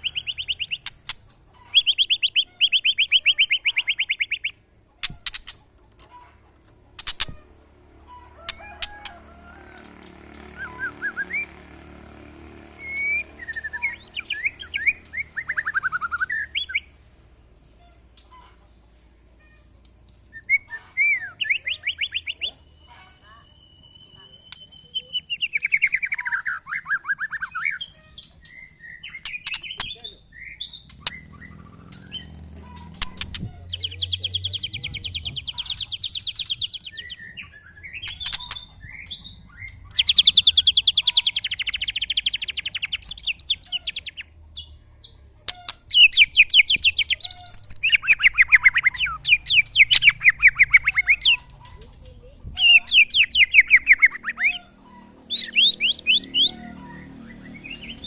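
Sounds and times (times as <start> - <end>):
songbirds trilling and whistling: 0.0 - 58.0.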